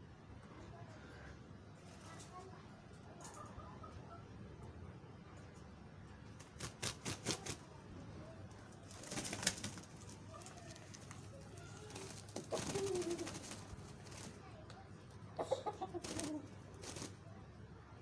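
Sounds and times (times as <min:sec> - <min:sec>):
chickens wing-flapping and scuffling: 0:01.6 - 0:04.1, 0:05.7 - 0:17.7.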